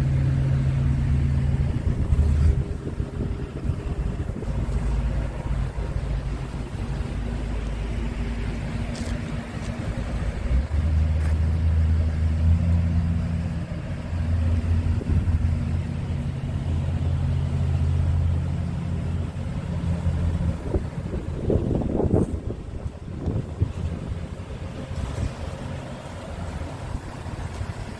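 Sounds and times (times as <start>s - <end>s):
diesel truck engine idling: 0.0s - 27.9s.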